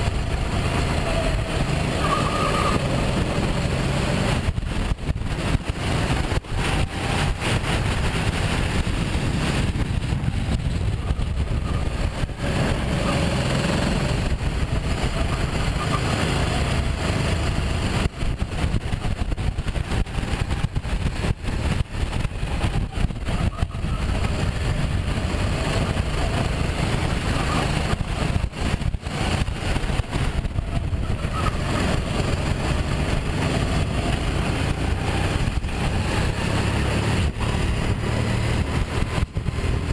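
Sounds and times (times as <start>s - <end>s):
kart engine running: 0.0s - 39.9s
low rumble: 2.7s - 39.9s.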